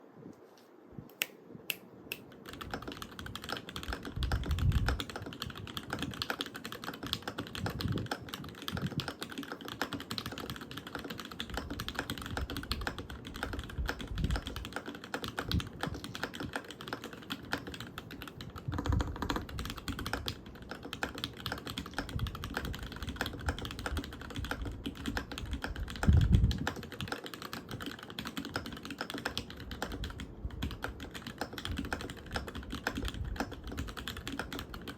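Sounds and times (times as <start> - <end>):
mechanical keyboard typing: 2.1 - 34.9.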